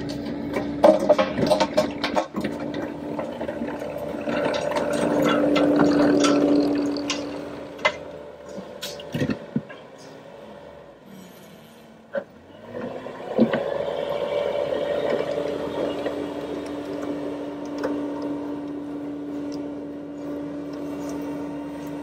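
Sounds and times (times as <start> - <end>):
hydraulic machine whining: 0.0 - 22.0.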